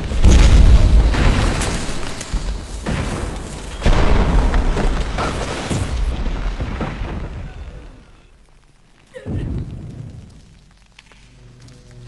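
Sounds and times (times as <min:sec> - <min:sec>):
debris crashing and falling: 0:00.0 - 0:11.7.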